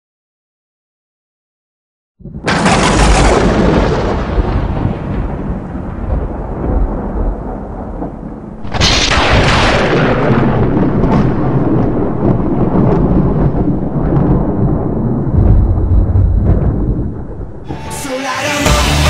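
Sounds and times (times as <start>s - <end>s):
sharp thunderclap: 2.2s - 17.7s
thunder rumbling: 2.2s - 17.8s.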